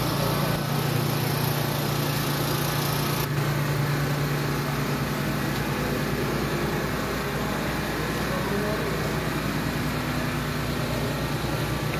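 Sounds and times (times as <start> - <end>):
small generator engine humming: 0.0 - 11.9.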